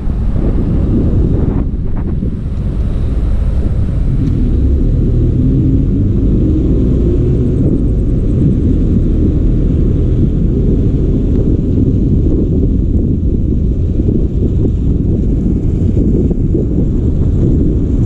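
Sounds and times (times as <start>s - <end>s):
bus engine running: 0.0s - 18.0s
wind buffeting microphone: 0.0s - 18.0s.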